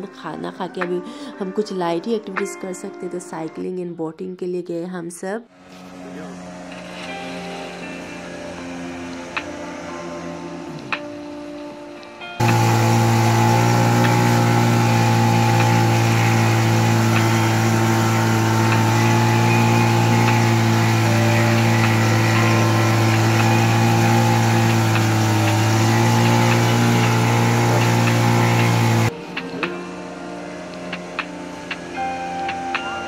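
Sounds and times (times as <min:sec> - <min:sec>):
motorboat engine droning: 0:05.5 - 0:33.0.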